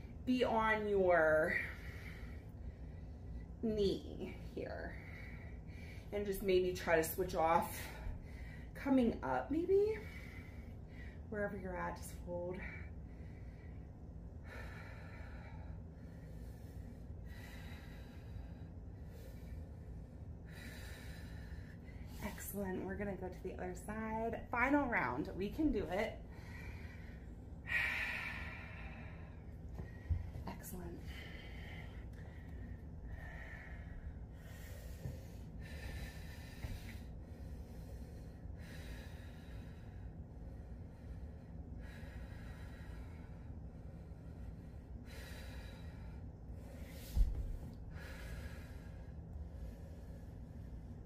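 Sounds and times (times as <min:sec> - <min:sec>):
woman breathing slowly: 0:00.8 - 0:23.4, 0:24.0 - 0:51.0.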